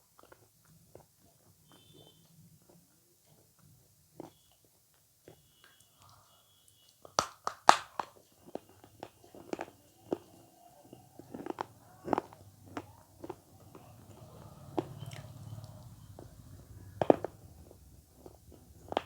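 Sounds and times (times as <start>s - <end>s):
chewing with clicks: 0.0s - 7.3s, 8.0s - 19.0s.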